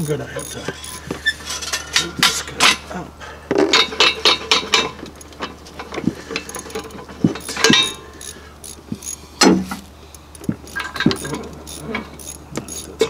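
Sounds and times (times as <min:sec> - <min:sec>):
metal clinks and knocks: 0:00.0 - 0:02.9, 0:03.5 - 0:13.0.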